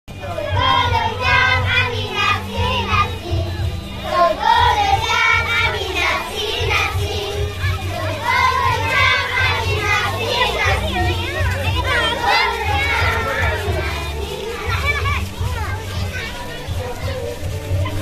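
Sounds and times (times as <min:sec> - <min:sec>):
children singing: 0:00.4 - 0:17.3.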